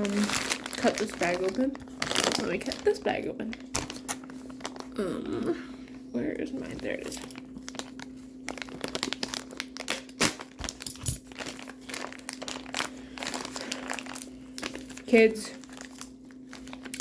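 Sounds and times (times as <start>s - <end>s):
plastic bag crinkling: 0.0s - 5.0s, 6.4s - 17.0s.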